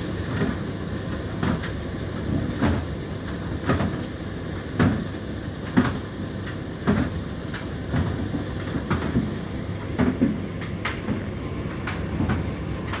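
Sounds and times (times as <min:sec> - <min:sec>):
tumble dryer drum humming: 0:00.0 - 0:13.0.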